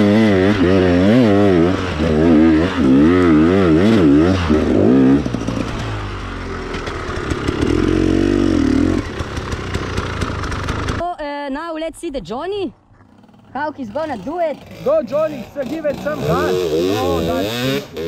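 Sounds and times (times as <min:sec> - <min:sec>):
dirt bike engine revving: 0:00.0 - 0:11.0, 0:13.0 - 0:18.0.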